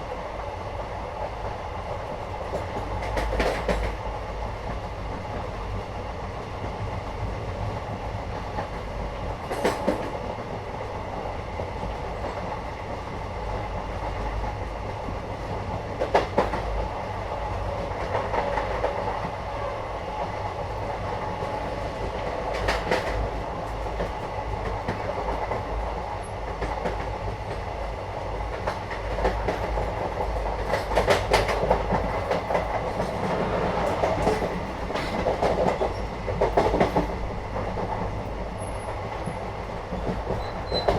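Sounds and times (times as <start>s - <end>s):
train carriage rumble and rattle: 0.0s - 40.9s.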